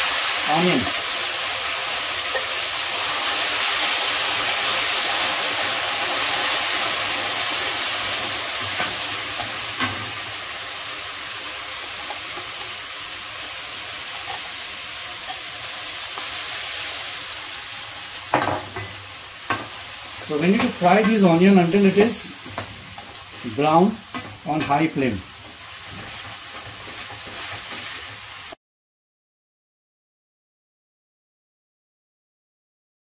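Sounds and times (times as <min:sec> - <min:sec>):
onion paste sizzling in fat: 0:00.0 - 0:28.6.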